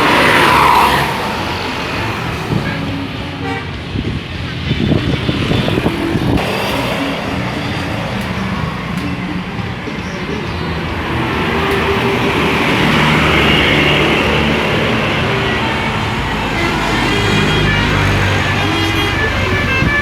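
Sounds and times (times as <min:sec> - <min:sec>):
buses driving past: 0:00.0 - 0:20.0.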